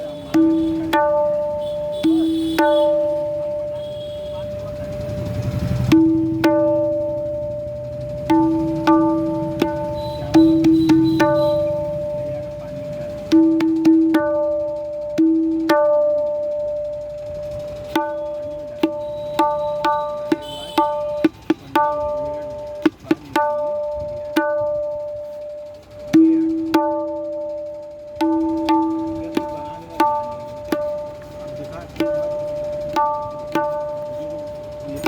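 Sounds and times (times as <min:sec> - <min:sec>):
tabla bass drum strokes: 0:00.0 - 0:35.0
tabla high drum ringing strokes: 0:00.0 - 0:35.0.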